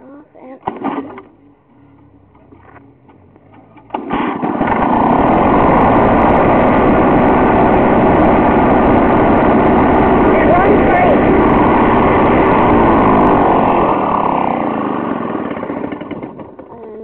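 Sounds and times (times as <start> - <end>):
lawnmower engine starting and running: 0.6 - 17.0.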